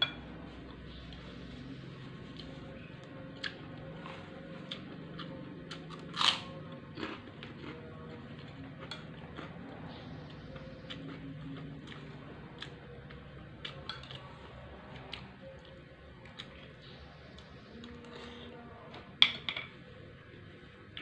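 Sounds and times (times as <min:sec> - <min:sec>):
crunching and chewing food: 0:00.5 - 0:19.0.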